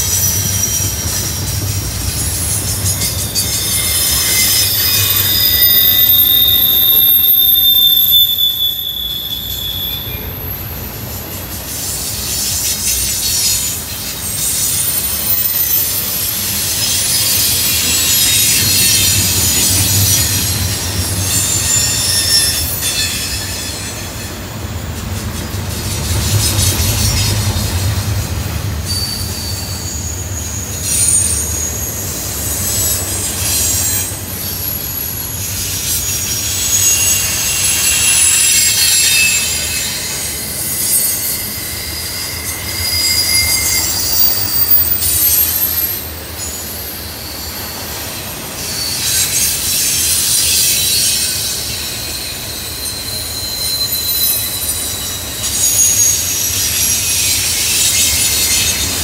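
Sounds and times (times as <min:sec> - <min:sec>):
freight train rumble: 0:00.0 - 0:59.0
train wheels squealing: 0:00.0 - 0:59.0.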